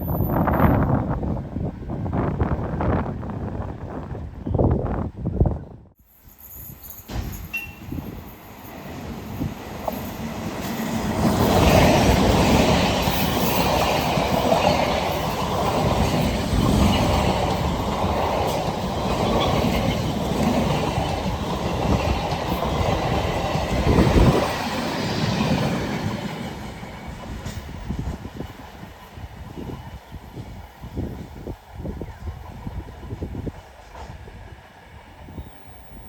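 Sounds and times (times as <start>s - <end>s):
train clickety-clack on rails: 6.4s - 36.0s.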